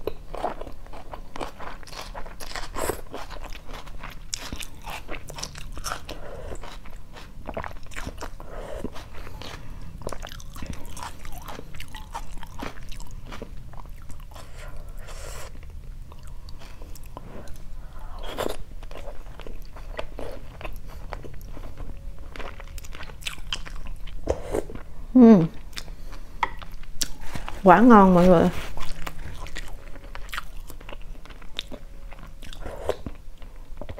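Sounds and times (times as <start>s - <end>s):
chewing and crunching food: 0.0s - 24.9s, 25.5s - 27.6s, 28.2s - 33.9s.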